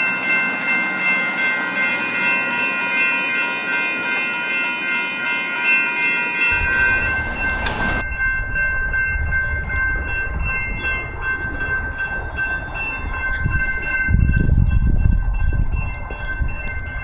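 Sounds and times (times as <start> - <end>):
railroad crossing bells ringing: 0.0 - 17.0
train rumbling past: 0.0 - 17.0.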